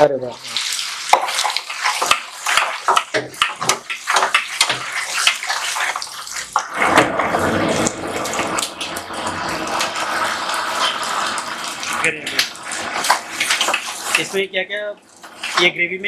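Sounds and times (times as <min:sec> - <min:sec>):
gravy sizzling in hot oil: 0:00.0 - 0:16.0.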